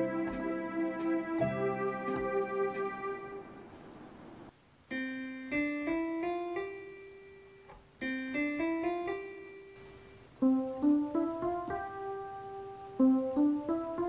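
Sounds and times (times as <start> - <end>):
keyboard piano notes stepping upward: 0.0 - 4.0, 4.9 - 14.0.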